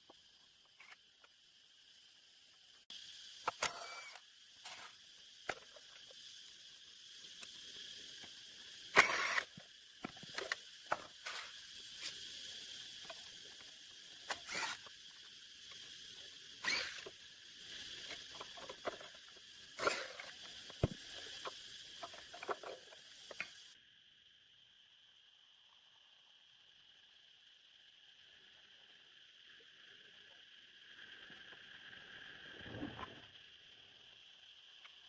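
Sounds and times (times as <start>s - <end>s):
steady high hiss: 0.0s - 35.0s.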